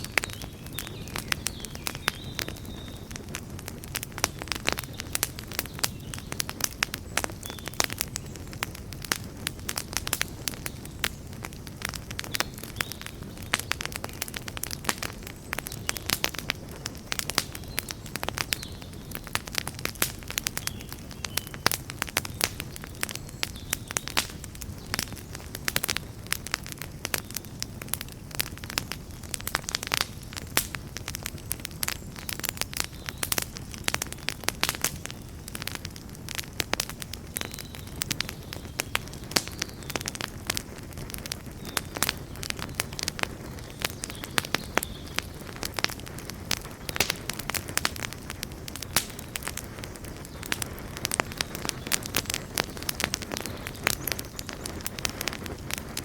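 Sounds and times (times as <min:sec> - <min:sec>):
low rumble of flame: 0:00.0 - 0:56.0
wood fire crackling and popping: 0:00.0 - 0:56.0.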